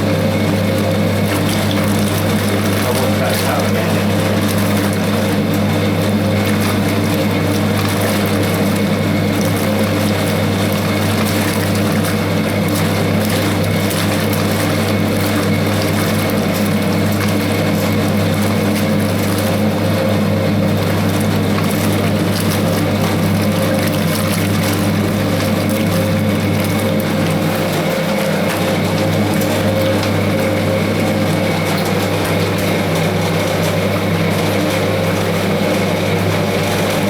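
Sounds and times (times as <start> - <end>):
washing machine motor humming: 0.0 - 37.0.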